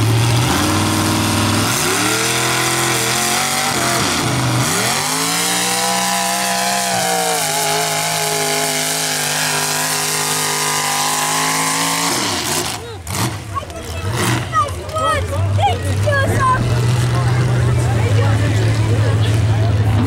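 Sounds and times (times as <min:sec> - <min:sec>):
truck engine revving hard: 0:00.0 - 0:20.0.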